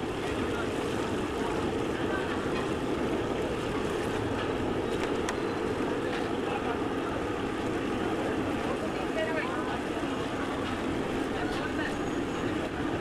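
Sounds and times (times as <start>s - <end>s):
gas burners roaring: 0.0s - 13.0s.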